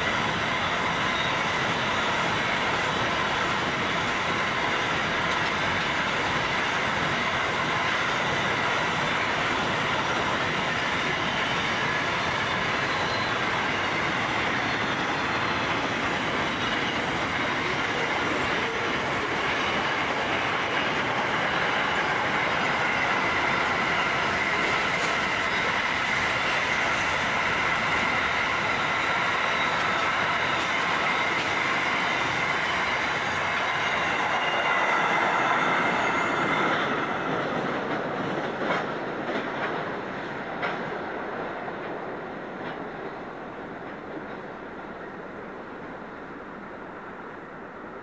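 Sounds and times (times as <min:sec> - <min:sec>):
wheels clacking over rail joints: 0:00.0 - 0:43.1
high ringing from train wheels: 0:00.0 - 0:45.4
freight train rolling on rails: 0:00.0 - 0:48.0.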